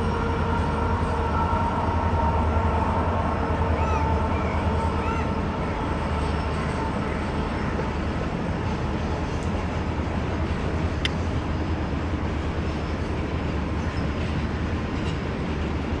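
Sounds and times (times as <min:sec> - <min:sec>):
train rumbling over bridge: 0:00.0 - 0:16.0.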